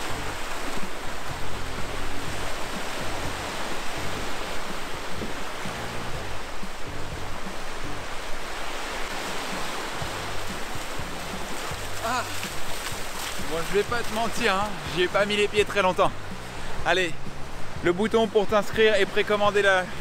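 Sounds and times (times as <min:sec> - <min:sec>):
background music with bass line: 0:00.0 - 0:20.0
small waves washing onto sand: 0:00.0 - 0:20.0.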